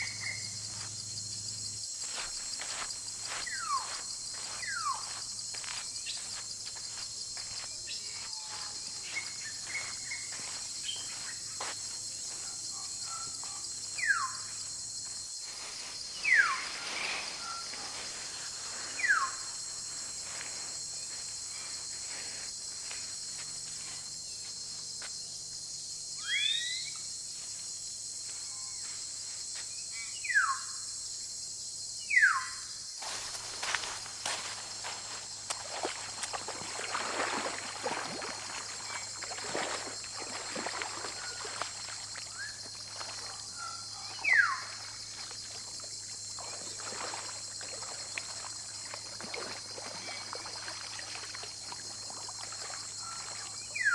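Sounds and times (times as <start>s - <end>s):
insect chorus drone: 0.0s - 53.9s.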